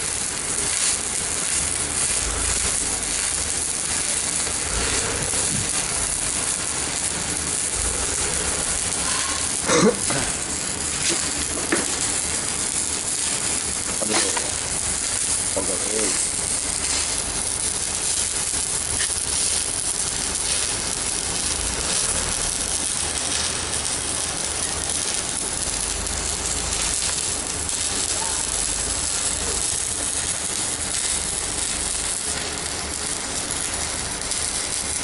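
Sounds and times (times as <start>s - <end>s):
welding arc crackling hiss: 0.0s - 35.0s.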